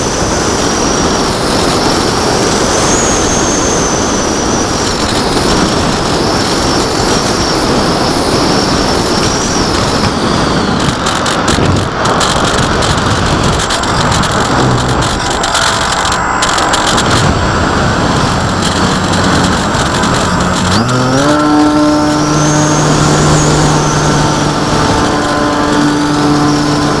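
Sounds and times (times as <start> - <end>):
small aircraft motor whine: 0.0 - 27.0
wind buffeting microphone: 0.0 - 27.0.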